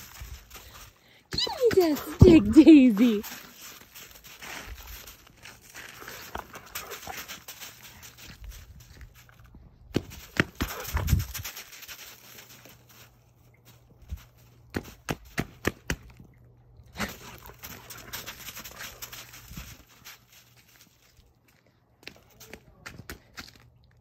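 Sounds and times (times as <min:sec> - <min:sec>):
footsteps crunching in snow: 0:00.0 - 0:14.6, 0:17.1 - 0:22.6.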